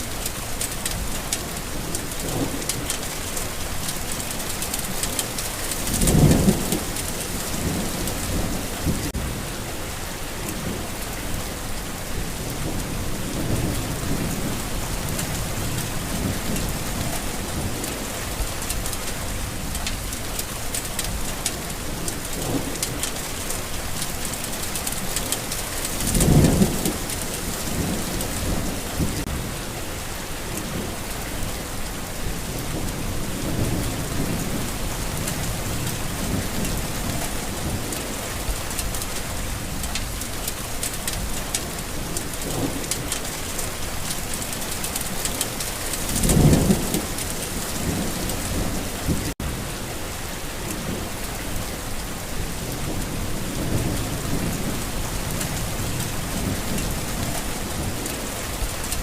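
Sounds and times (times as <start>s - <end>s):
thunder rumbling: 0.0s - 9.7s, 10.5s - 29.6s, 32.1s - 59.0s
heavy rain: 0.0s - 59.0s.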